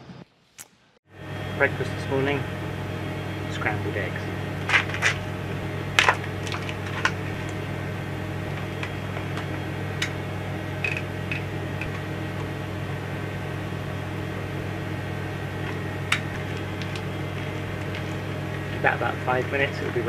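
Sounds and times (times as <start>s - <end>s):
ventilation fans humming: 1.1s - 20.0s.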